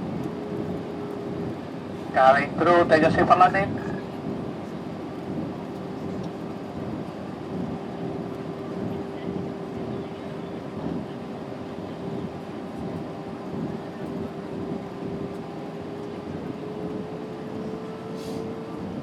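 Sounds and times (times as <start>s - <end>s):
aircraft engine drone: 0.0s - 19.0s
airflow rush in aircraft cabin: 0.0s - 19.0s.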